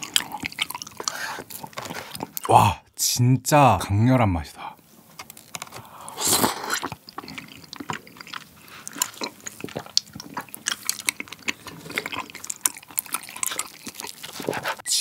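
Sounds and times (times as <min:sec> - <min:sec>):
wet chewing of rice cakes: 0:00.0 - 0:02.5, 0:05.1 - 0:14.9.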